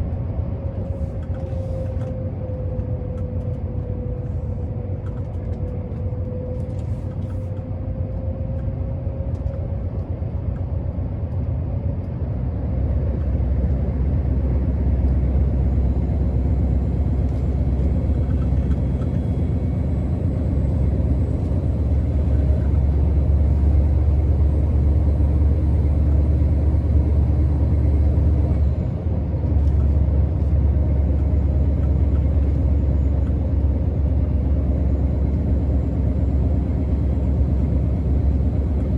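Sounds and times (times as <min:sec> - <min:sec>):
diesel engine deep rumble: 0:00.0 - 0:38.9.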